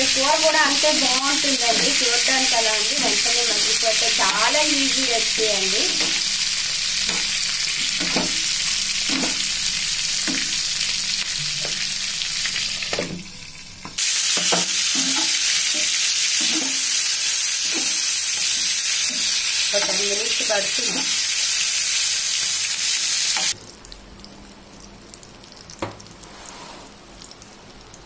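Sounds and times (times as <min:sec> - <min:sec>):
peppers sizzling in hot oil: 0:00.0 - 0:28.0.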